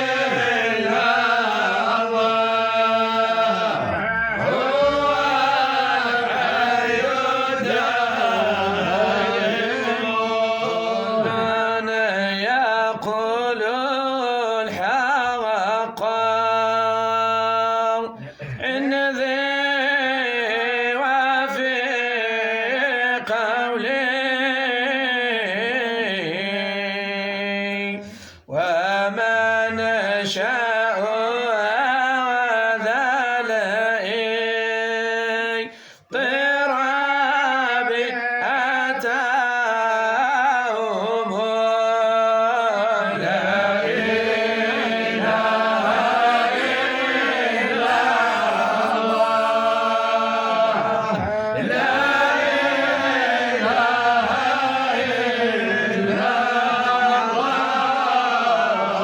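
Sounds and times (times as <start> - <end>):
man chanting unaccompanied: 0.0 - 59.0.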